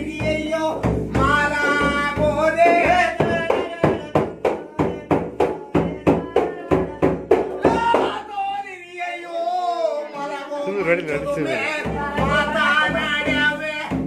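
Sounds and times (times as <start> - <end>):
frame drum beat: 0.0 - 8.3, 10.8 - 14.0
person singing folk song: 0.0 - 14.0.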